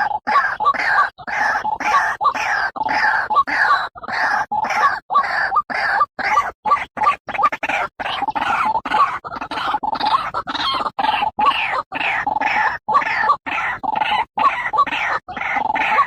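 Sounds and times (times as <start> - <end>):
bird calls repeated rapidly: 0.0 - 16.0.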